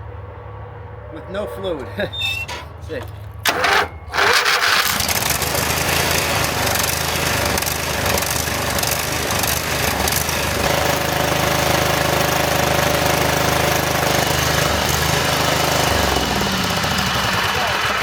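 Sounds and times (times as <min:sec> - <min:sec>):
riding mower engine running: 0:01.8 - 0:18.0.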